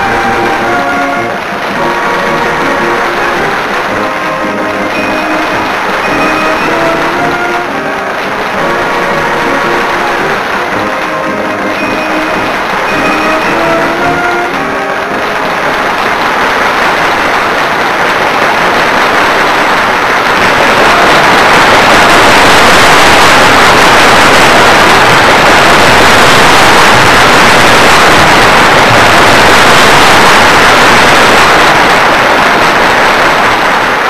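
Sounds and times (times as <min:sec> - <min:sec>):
loud static-like noise: 0:00.0 - 0:34.0.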